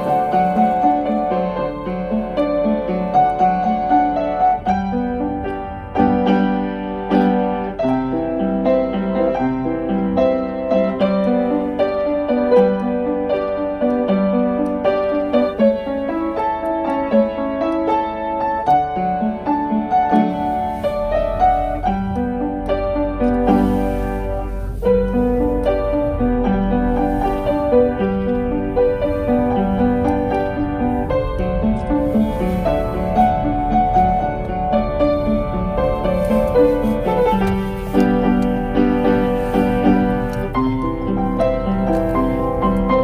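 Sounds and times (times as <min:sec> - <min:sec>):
gentle piano piece: 0:00.0 - 0:43.0.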